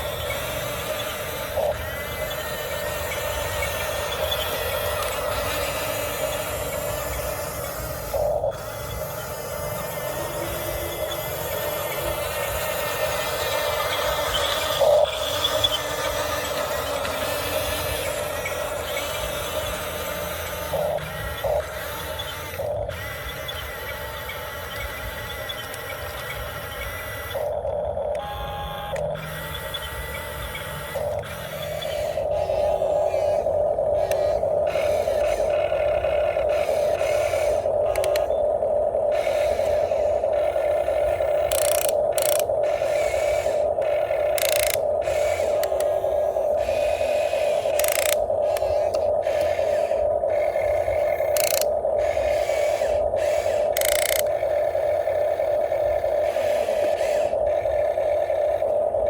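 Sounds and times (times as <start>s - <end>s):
sharp clicks: 0.0s - 38.5s, 39.1s - 58.6s
toy excavator motors whining: 0.0s - 59.0s.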